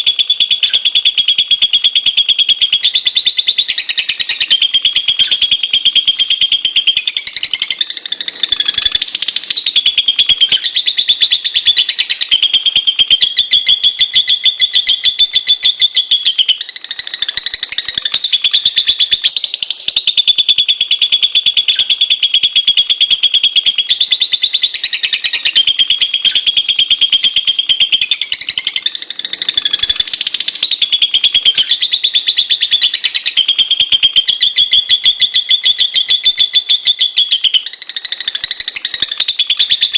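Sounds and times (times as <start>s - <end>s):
lovebird chattering: 0.0s - 39.9s.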